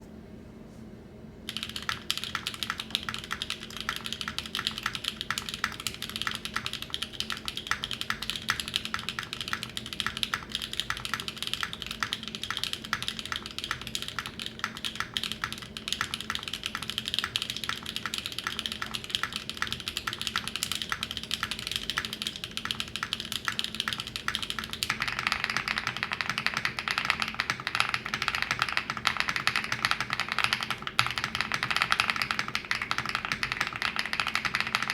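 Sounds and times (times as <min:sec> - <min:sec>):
fast mechanical keyboard typing: 0:01.5 - 0:34.9.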